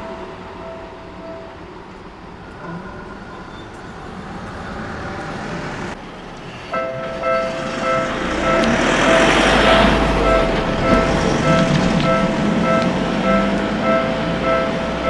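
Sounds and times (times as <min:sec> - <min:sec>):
level crossing warning bell: 0:00.0 - 0:15.0
rumble of passing traffic and rail: 0:00.0 - 0:15.0.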